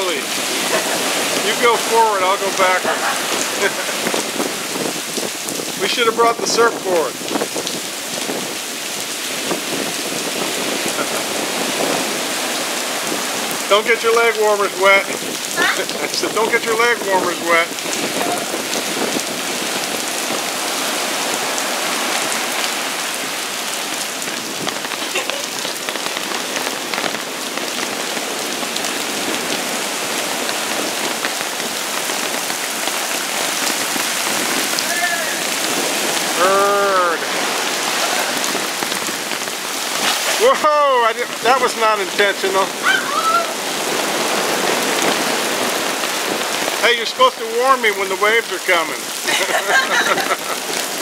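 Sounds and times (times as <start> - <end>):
heavy rain: 0.0 - 51.0
surf washing in: 0.0 - 51.0.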